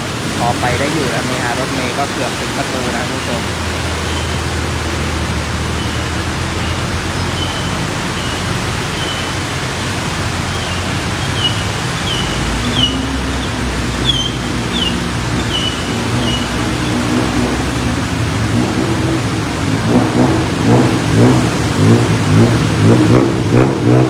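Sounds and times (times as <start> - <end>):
vehicle engines running: 0.0 - 24.0
water splashed by tyres: 0.0 - 24.0.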